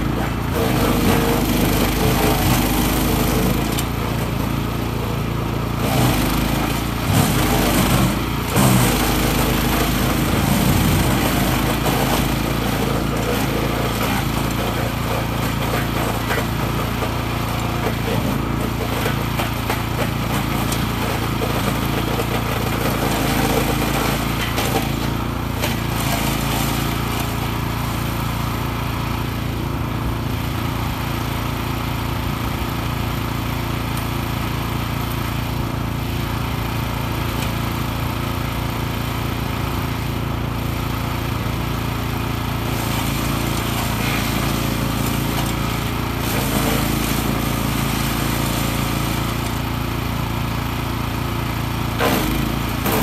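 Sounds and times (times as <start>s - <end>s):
wood chipper engine running: 0.0s - 53.0s.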